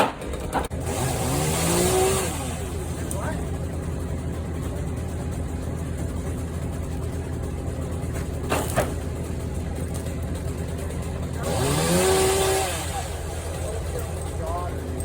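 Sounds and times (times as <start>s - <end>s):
heavy equipment engine running: 0.0s - 15.0s.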